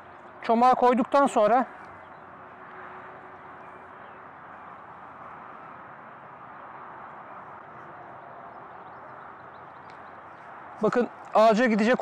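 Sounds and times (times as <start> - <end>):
faint outdoor background hiss: 0.0 - 12.0.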